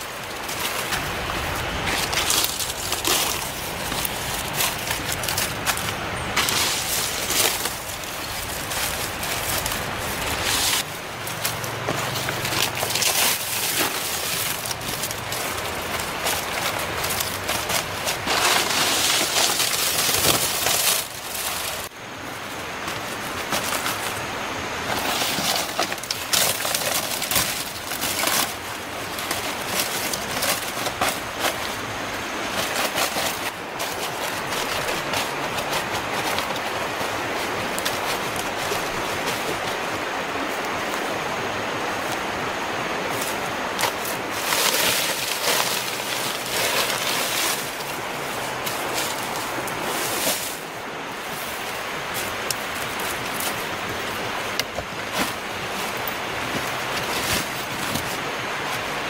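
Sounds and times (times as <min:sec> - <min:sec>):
leaf thatch rustling: 0:00.0 - 0:59.0.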